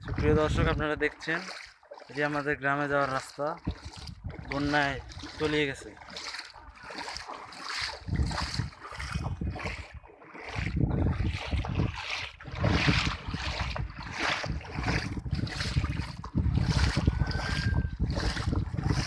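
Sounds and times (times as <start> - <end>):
wind buffeting microphone: 0.0 - 1.2, 3.4 - 19.0.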